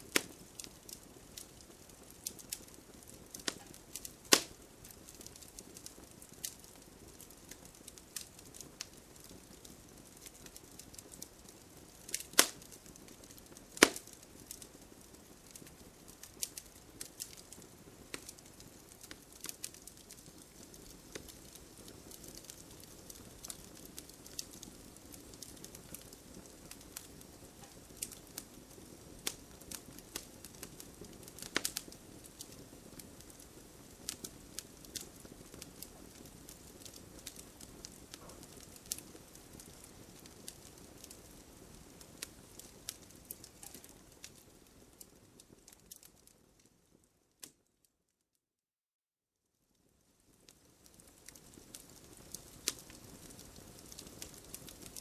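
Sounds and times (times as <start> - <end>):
campfire crackling: 0.0 - 47.6, 49.8 - 55.0
low hiss of flames: 0.0 - 47.6, 49.9 - 55.0
sharp pops and snaps of fire: 0.0 - 47.9, 49.7 - 55.0.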